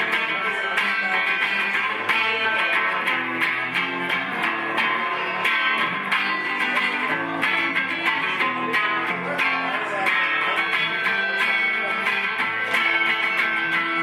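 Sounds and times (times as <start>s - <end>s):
solo guitar playing: 0.0s - 14.0s.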